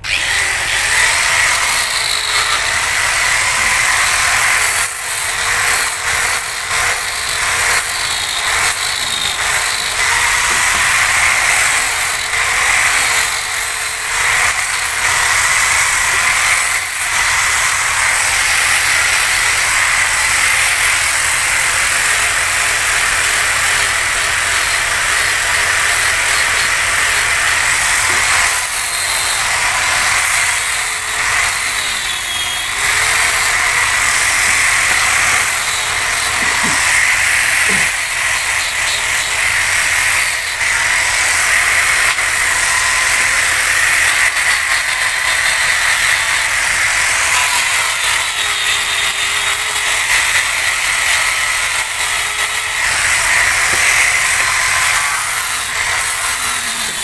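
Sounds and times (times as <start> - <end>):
angle grinder grinding wood: 0.0 - 57.0.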